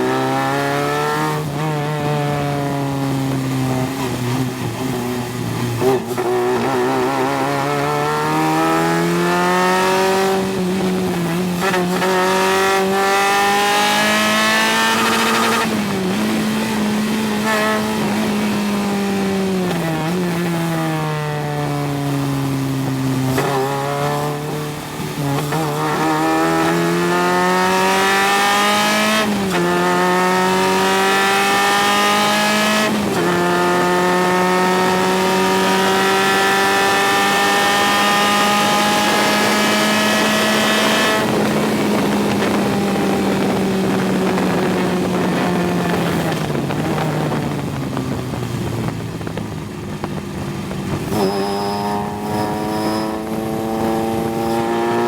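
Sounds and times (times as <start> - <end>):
race car engine accelerating: 0.0 - 48.0, 50.6 - 55.0.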